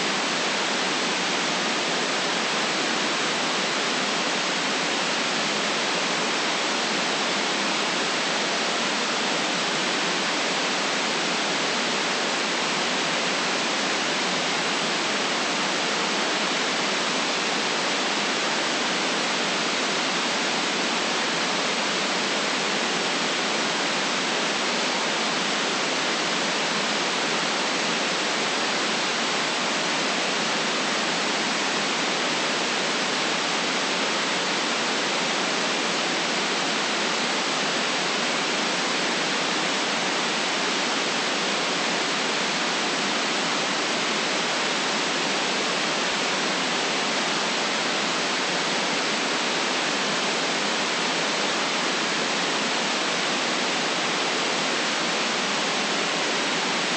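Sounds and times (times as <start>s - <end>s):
white noise hiss: 0.0s - 56.9s.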